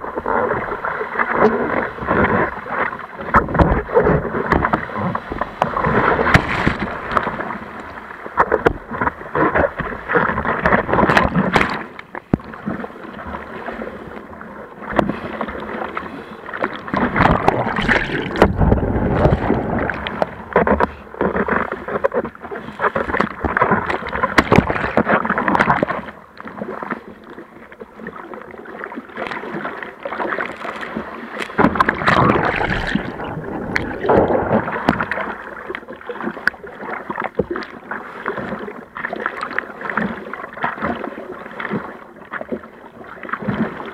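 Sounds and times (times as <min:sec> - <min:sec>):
sea water splashing and rushing: 0:00.0 - 0:43.9.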